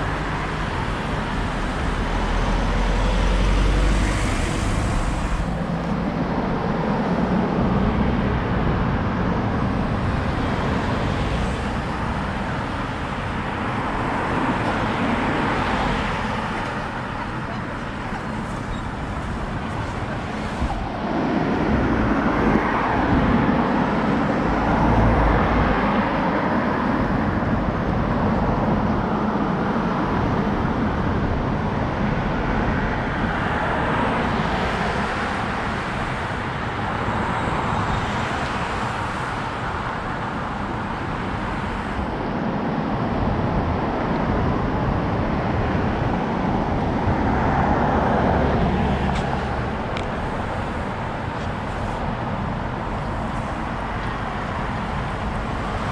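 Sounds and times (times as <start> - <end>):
cars passing: 0.0 - 55.9
road traffic noise: 0.0 - 55.9.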